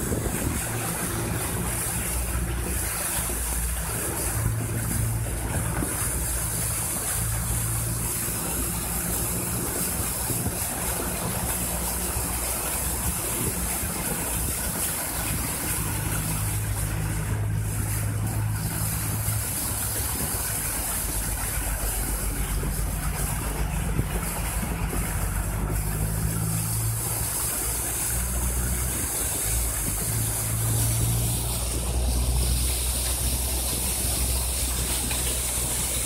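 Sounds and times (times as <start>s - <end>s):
car engine idling hum: 0.0s - 36.0s
steady rain: 0.0s - 36.0s
water running on street: 0.0s - 36.0s.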